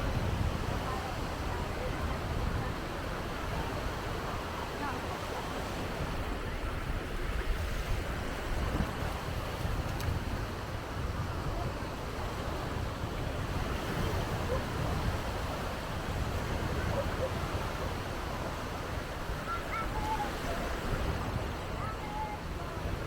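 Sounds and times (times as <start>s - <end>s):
faint distant voices: 0.0s - 23.0s
sea surf washing onto beach: 0.0s - 23.0s
wind buffeting the microphone: 0.0s - 23.0s.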